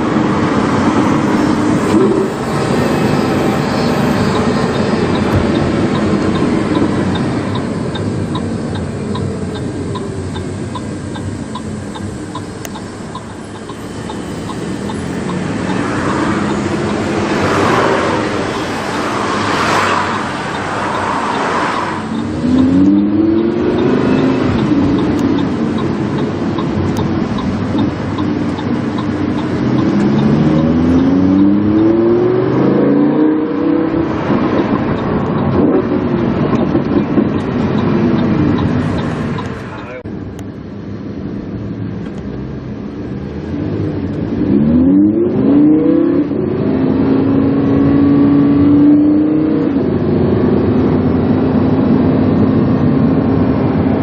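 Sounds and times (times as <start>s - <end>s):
car engine accelerating: 0.0s - 40.5s, 41.3s - 54.0s
road noise: 0.0s - 54.0s.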